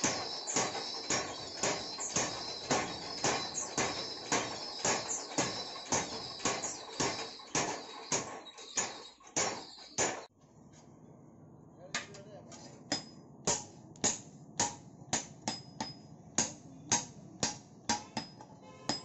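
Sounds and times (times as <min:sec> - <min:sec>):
hammer blows on steel: 0:00.0 - 0:10.3, 0:12.9 - 0:19.0.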